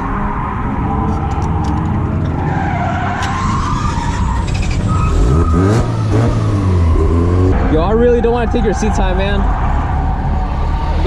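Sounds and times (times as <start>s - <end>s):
car engines revving: 0.0s - 11.0s
tyres skidding: 0.0s - 11.0s.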